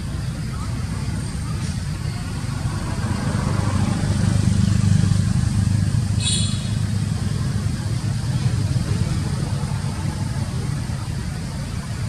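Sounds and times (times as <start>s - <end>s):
engine running rumble: 0.0s - 12.0s.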